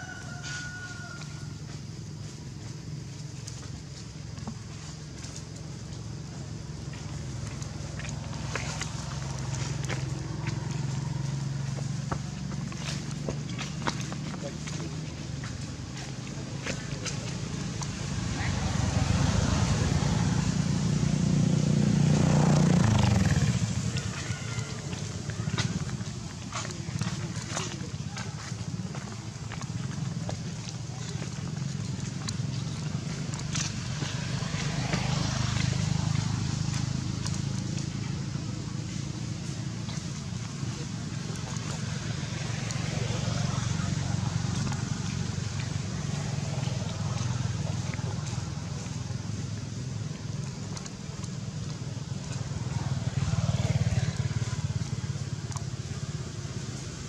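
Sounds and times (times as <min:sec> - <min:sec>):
passing vehicle engine hum: 0:00.0 - 0:57.0.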